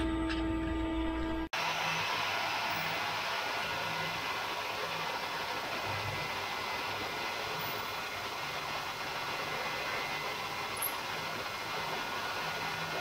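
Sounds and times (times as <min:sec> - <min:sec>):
milling machine whine: 0:00.0 - 0:13.0
coolant nozzle hissing: 0:01.6 - 0:13.0.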